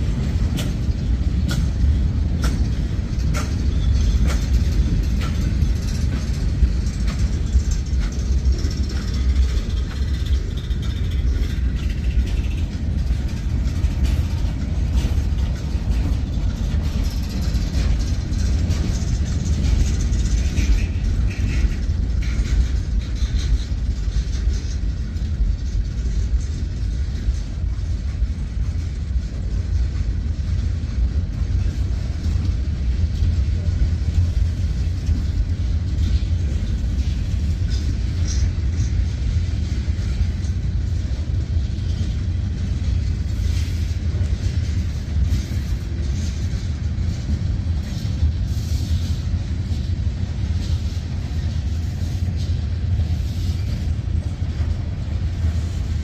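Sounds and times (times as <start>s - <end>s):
freight train cars rolling past: 0.0s - 56.0s.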